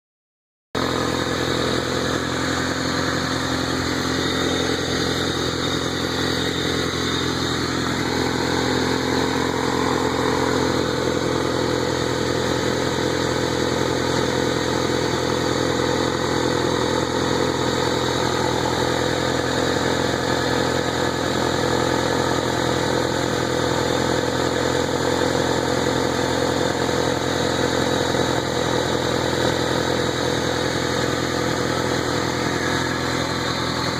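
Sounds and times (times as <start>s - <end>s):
car engine idling: 0.8s - 33.9s.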